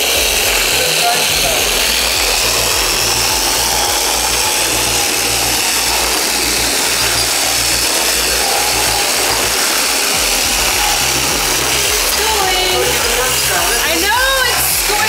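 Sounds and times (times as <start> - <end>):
gear hiss: 0.0 - 15.0
toy train motor whirring: 0.0 - 15.0.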